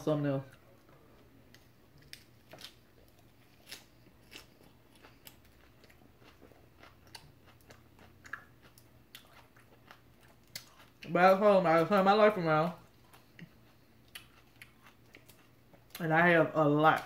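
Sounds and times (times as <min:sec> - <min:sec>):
chewing salad crunches: 0:01.5 - 0:16.2.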